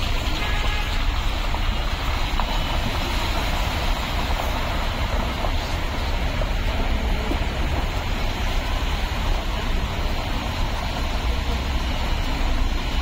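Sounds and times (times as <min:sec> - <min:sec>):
cars driving through flooded road: 0:00.0 - 0:13.0.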